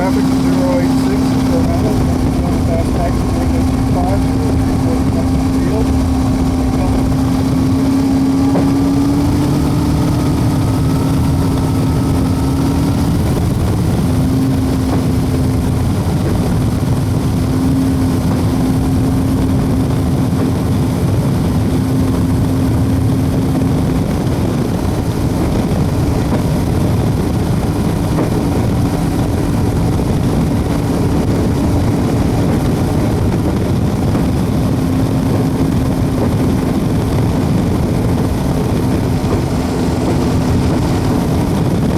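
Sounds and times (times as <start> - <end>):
propeller plane engine running: 0.0 - 41.9.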